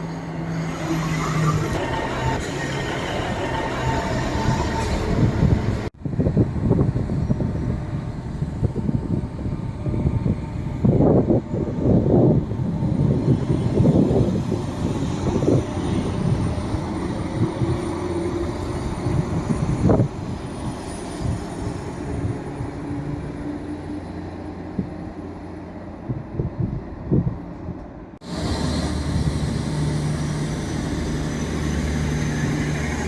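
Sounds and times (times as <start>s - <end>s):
diesel train engine drone: 0.0s - 33.0s.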